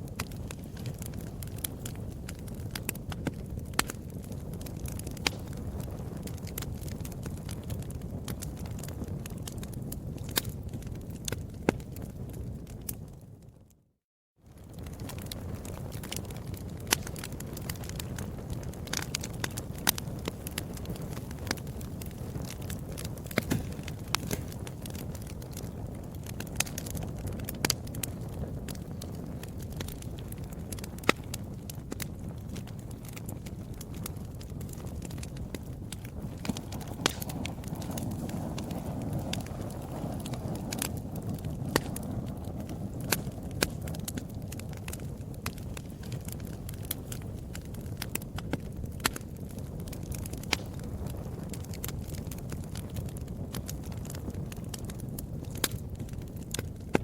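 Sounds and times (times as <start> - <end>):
wood fire crackling and popping: 0.0 - 13.8, 14.5 - 57.0.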